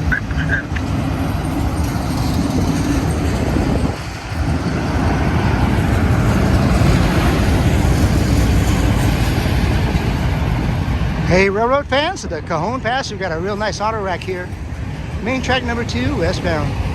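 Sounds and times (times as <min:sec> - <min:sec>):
freight train wheels rumbling: 0:00.0 - 0:16.9.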